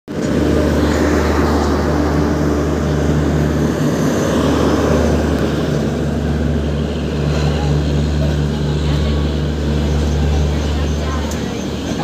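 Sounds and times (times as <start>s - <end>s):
constant low hum: 0.1s - 12.0s
train rumbling past: 0.1s - 12.0s.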